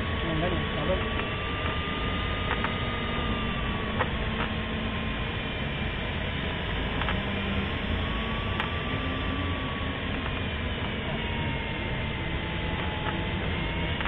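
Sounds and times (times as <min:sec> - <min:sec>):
thin steady tone: 0:00.0 - 0:14.0.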